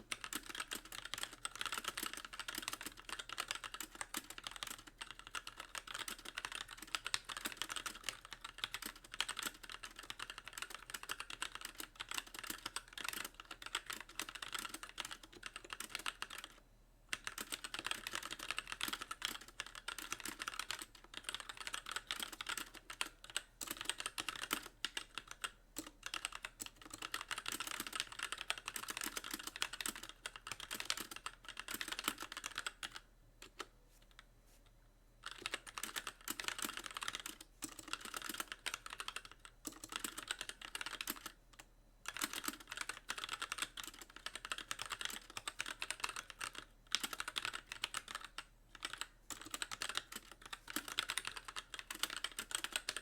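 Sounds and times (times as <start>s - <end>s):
mechanical keyboard typing: 0.0s - 33.7s, 35.2s - 53.0s.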